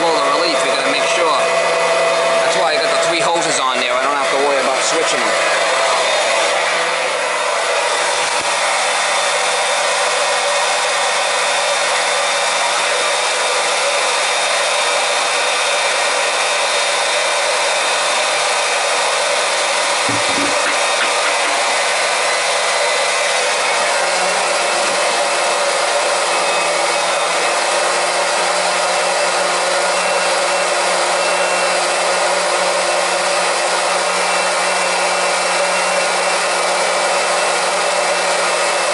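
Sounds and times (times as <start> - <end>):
electric pump running: 0.0 - 38.9.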